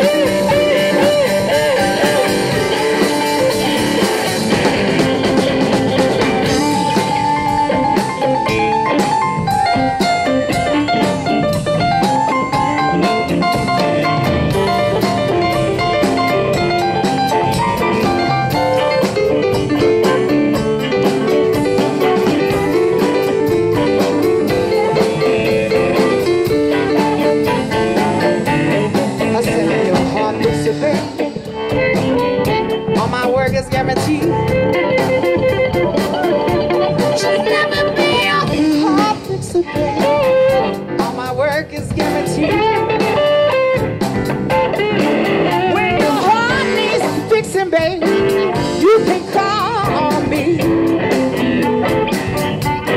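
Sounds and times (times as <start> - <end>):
bass: 0.0 - 52.9
drum kit: 0.0 - 52.9
electric guitar: 0.0 - 52.9.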